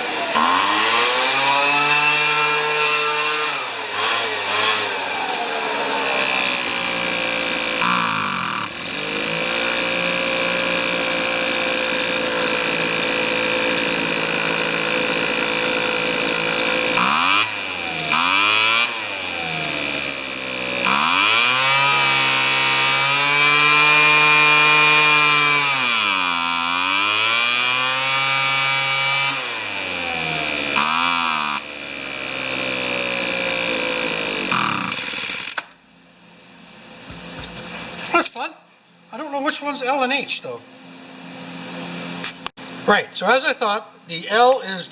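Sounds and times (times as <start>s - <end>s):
leaf blower engine revving: 0.0s - 35.8s, 41.2s - 42.9s.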